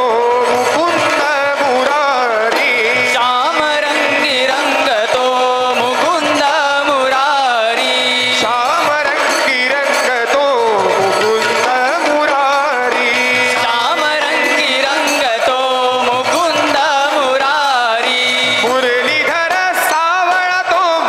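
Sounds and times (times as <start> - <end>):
hand-played barrel drum: 0.0 - 21.0
men singing devotional song: 0.0 - 21.0.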